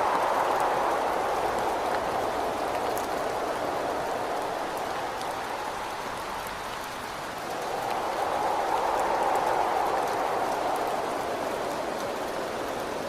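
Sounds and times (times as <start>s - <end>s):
steady rain: 0.0s - 13.0s
wind gust rushing: 0.0s - 13.0s.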